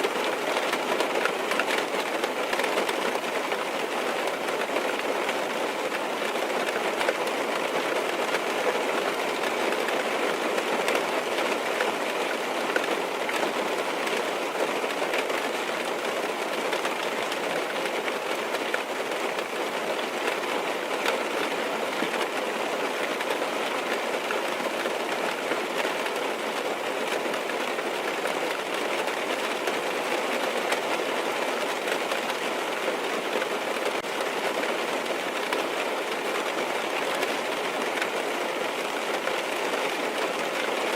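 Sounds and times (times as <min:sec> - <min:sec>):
rain on car roof: 0:00.0 - 0:40.9.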